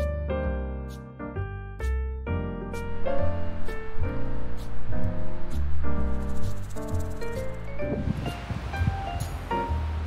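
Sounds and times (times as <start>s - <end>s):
piano music with steady beat: 0.0s - 10.0s.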